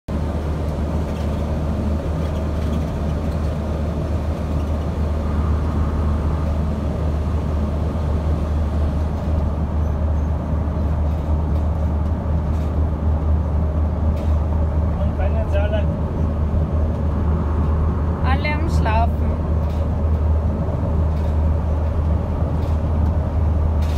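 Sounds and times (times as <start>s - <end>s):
road and engine rumble: 0.1s - 23.9s.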